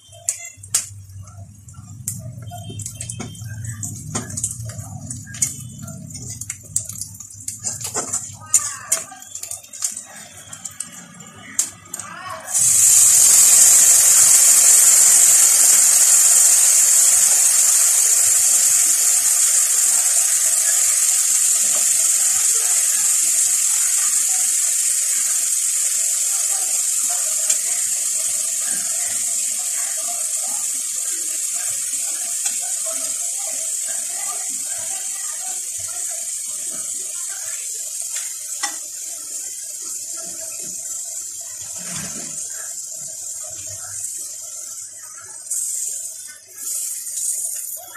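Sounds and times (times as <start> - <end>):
onions sizzling in hot oil: 0.0 - 47.9.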